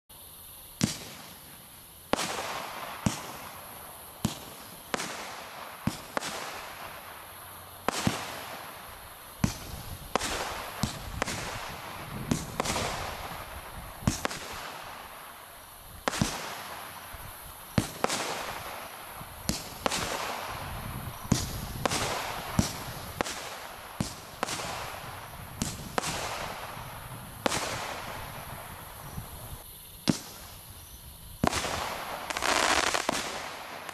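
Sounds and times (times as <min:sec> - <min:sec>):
fireworks bangs: 0:00.6 - 0:33.9.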